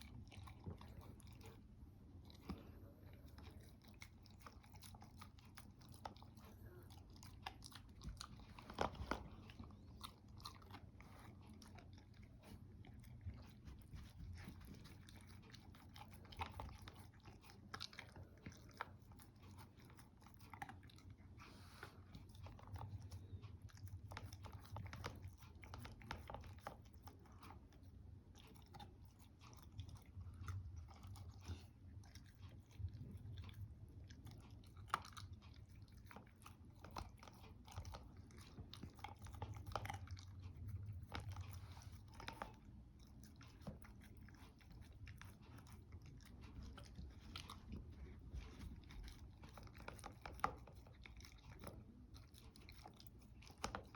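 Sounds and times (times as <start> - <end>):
dog chewing and crunching food: 0.0 - 53.9.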